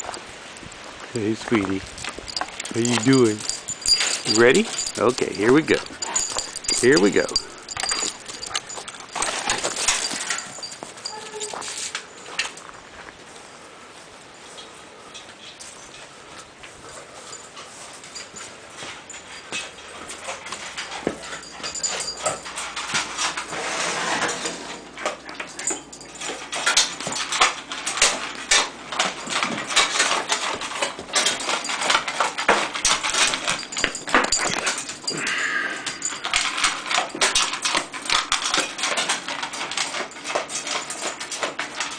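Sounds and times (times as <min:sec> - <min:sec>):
dog eating from metal bowl: 0:00.0 - 0:13.0, 0:14.4 - 0:41.9.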